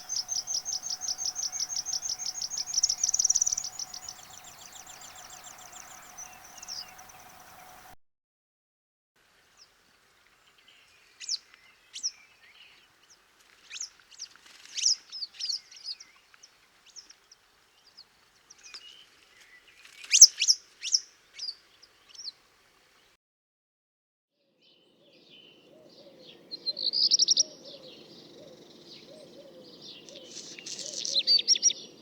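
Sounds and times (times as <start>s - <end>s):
small bird singing: 0.0s - 8.0s, 10.4s - 22.4s, 24.6s - 32.0s.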